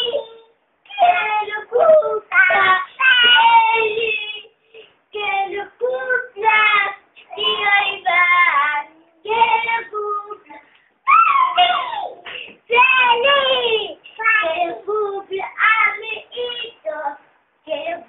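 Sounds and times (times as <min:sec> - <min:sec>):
girl singing in a high voice: 0:00.0 - 0:18.0.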